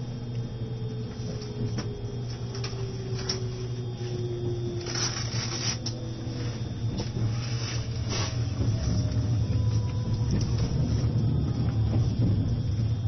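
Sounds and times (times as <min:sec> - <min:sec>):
electric motor whine: 0:00.0 - 0:13.0
train low rumble: 0:00.0 - 0:13.0.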